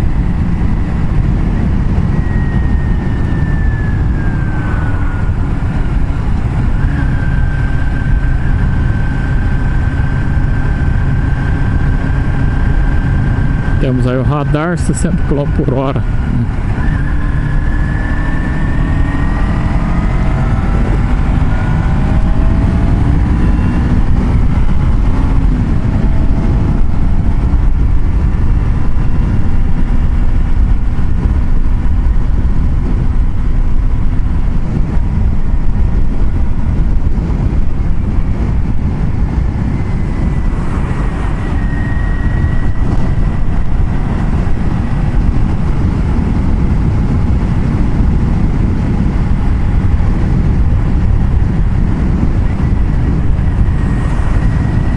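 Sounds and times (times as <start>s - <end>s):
car road and engine noise: 0.0s - 54.9s.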